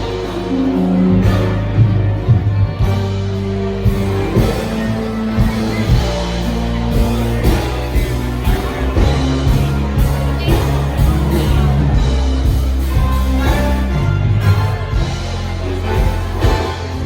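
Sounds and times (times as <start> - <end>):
blues band playing: 0.0 - 17.0.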